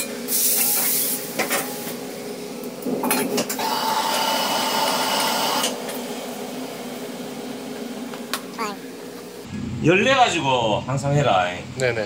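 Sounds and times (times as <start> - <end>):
wok burner and exhaust hood hum: 0.0 - 12.0.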